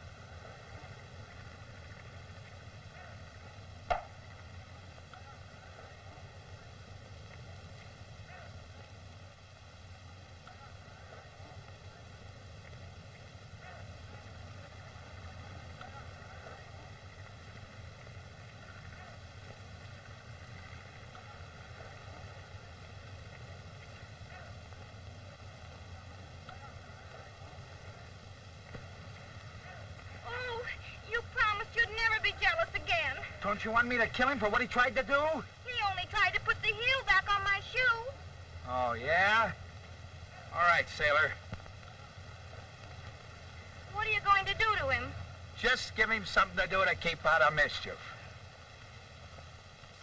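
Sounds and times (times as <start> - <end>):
film soundtrack hiss and hum: 0.0 - 50.0.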